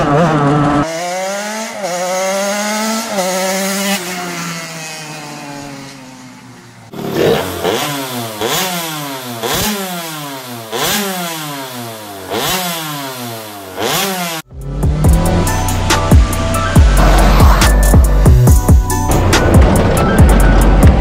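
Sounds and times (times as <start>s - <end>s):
two-stroke engine revving: 0.0s - 6.3s, 6.9s - 16.0s, 16.7s - 21.0s.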